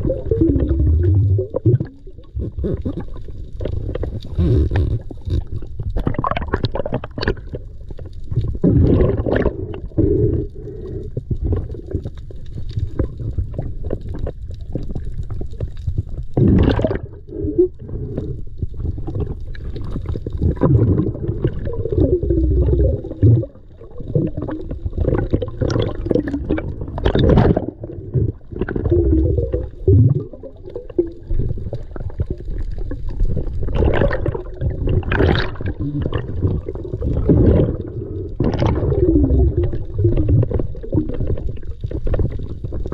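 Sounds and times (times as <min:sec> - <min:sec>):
rushes of water: 0:00.0 - 0:42.9
underwater rumbling and gurgling: 0:00.0 - 0:42.9.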